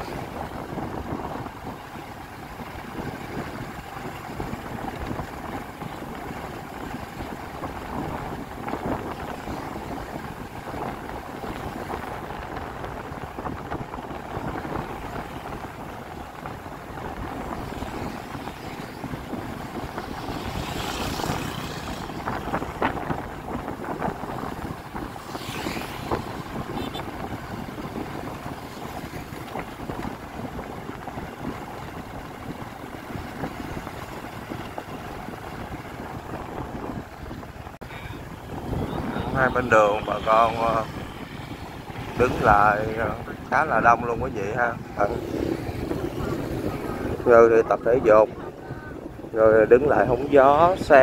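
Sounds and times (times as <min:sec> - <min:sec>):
motorbike engine hum: 0:00.0 - 0:51.0
passing traffic: 0:00.0 - 0:51.0
wind on microphone: 0:00.0 - 0:51.0.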